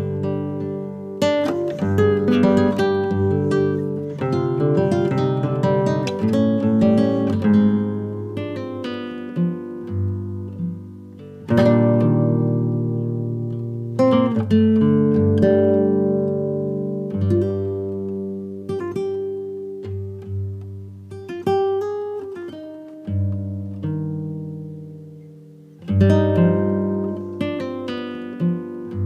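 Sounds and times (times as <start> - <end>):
slow acoustic guitar piece: 0.0 - 29.0.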